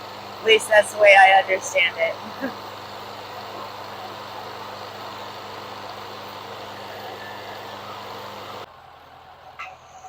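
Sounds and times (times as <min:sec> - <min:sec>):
drilling rig engine droning: 0:00.0 - 0:10.0.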